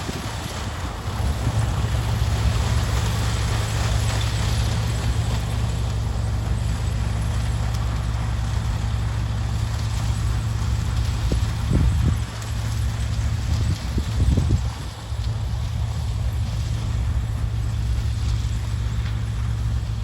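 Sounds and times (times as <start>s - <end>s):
harvester engine hum: 0.0s - 20.0s.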